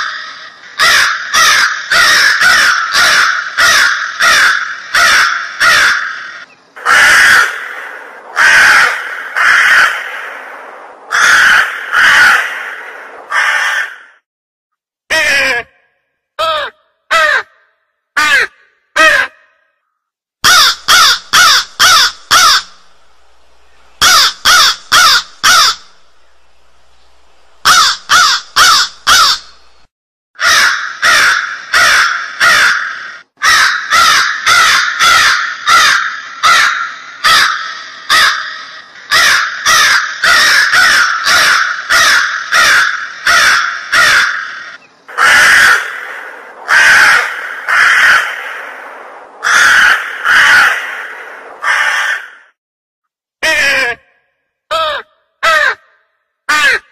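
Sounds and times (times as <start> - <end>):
crows cawing: 0.0 - 14.2, 16.4 - 19.7, 20.4 - 22.8, 24.0 - 26.0, 27.6 - 29.6, 30.4 - 52.6, 54.7 - 56.9.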